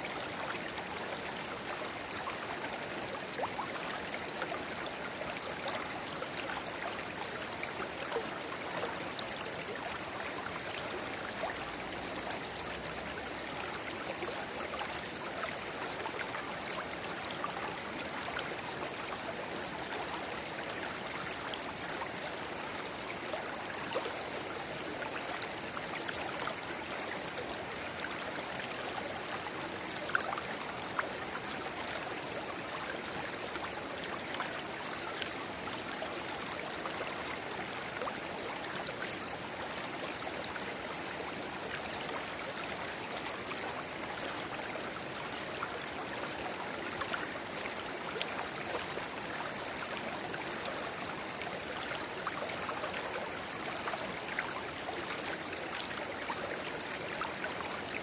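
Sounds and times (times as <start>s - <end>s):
shallow river babbling: 0.1s - 58.0s.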